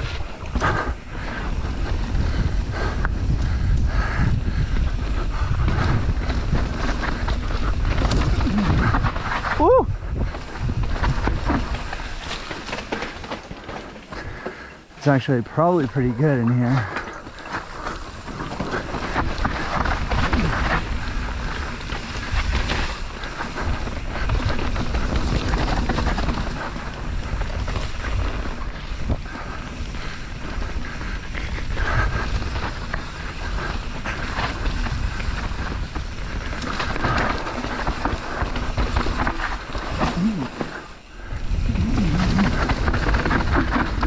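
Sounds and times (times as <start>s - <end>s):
wind buffeting microphone: 0.0s - 13.1s, 14.1s - 44.0s
tyres rumbling on mud: 0.0s - 44.0s.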